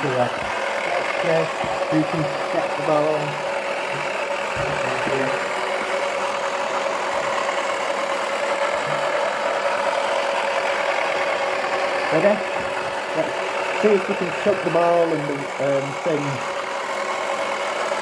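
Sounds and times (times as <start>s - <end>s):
toy electric motor whining: 0.0s - 18.0s.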